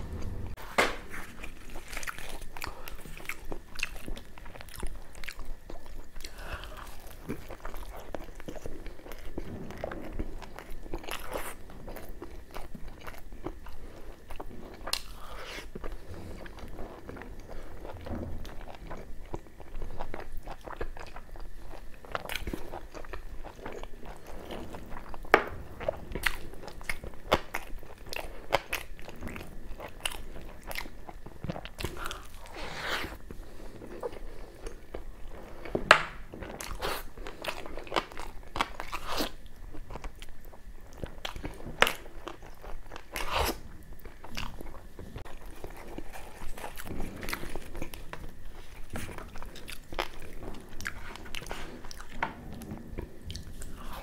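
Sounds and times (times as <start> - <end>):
chewing and crunching food: 1.1 - 54.0.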